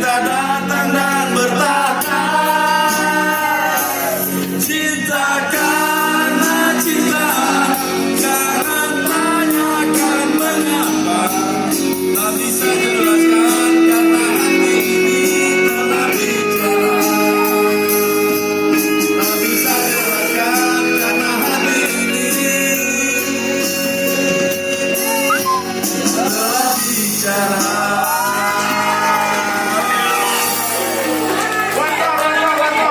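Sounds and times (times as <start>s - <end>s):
live band music: 0.0s - 32.0s
man singing a pop ballad: 0.0s - 32.9s.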